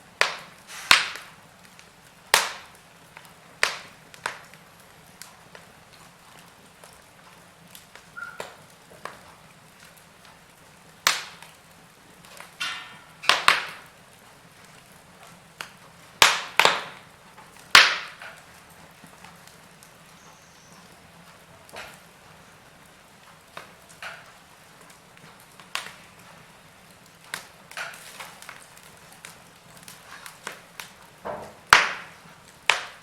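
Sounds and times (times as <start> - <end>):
faint steady hiss: 0.0 - 33.0
logs crackling and popping: 0.0 - 33.0.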